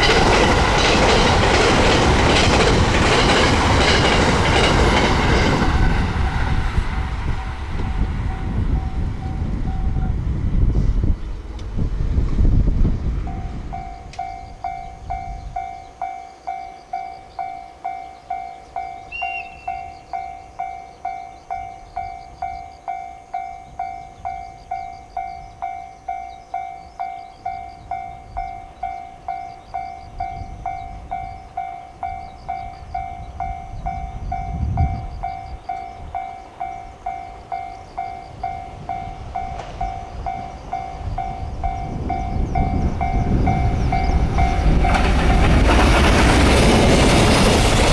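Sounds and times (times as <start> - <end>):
level-crossing warning bell ringing: 0.0 - 11.6, 12.4 - 47.9
train rumble: 0.0 - 47.9.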